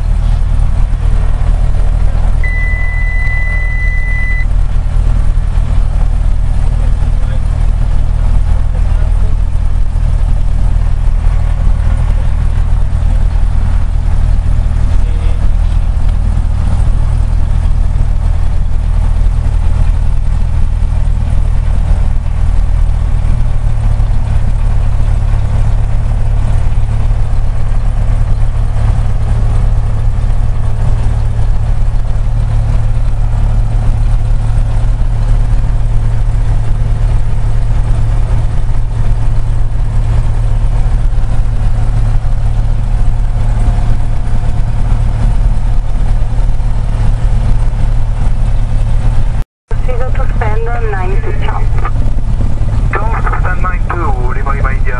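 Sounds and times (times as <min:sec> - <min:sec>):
small plane engine and propeller: 0:00.0 - 0:54.9.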